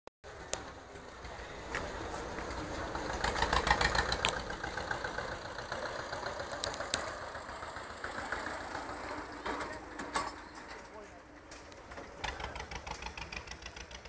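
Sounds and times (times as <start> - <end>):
tractor engine chugging: 0.3 - 14.0.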